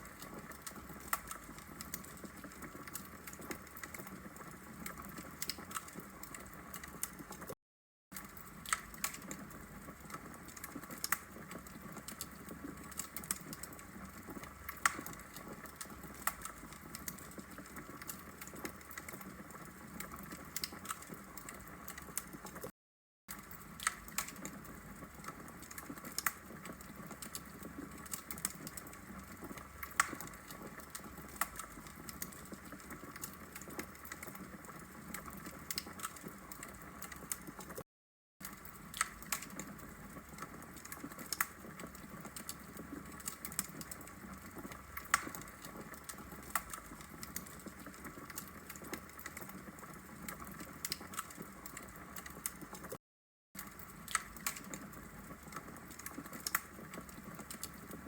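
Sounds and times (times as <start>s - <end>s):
fire crackling: 0.0s - 7.5s, 8.2s - 22.6s, 23.3s - 37.7s, 38.4s - 52.9s, 53.6s - 58.0s.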